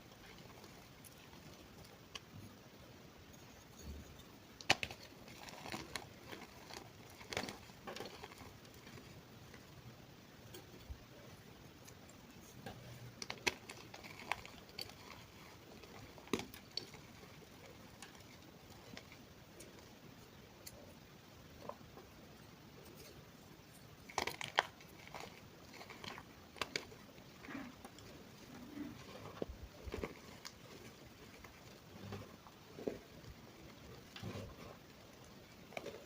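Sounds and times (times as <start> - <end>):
low room noise: 0.0 - 36.0.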